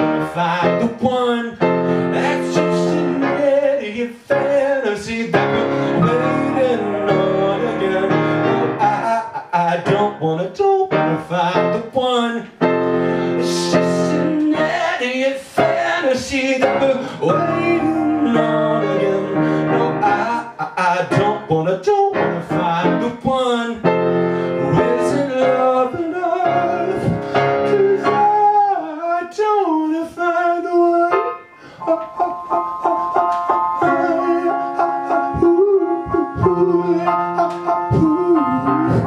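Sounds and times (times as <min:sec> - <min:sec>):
piano chords and runs: 0:00.0 - 0:29.0, 0:30.4 - 0:39.0.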